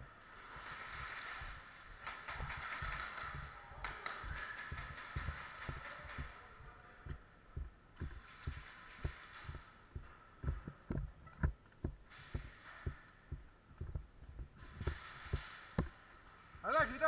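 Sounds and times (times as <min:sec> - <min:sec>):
footsteps: 0:00.0 - 0:16.5
sharp knocks: 0:01.4 - 0:16.1.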